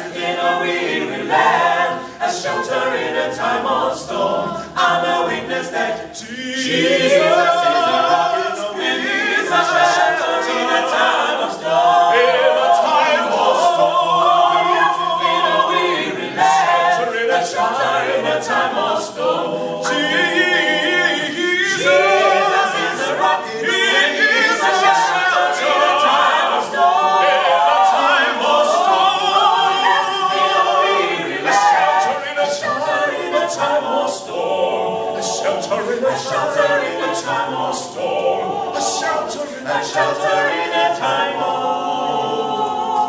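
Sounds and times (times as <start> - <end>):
a cappella group singing: 0.0 - 43.0.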